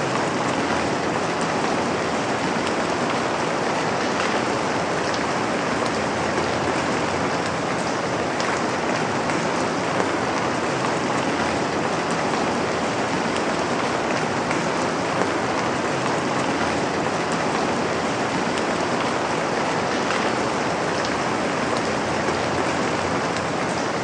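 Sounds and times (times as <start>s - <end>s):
steady rain patter: 0.0s - 24.0s.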